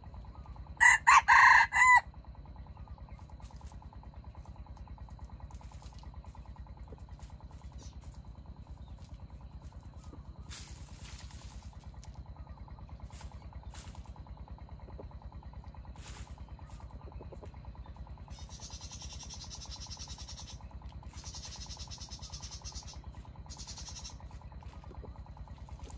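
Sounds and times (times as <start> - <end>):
engine running steadily: 0.0 - 25.9.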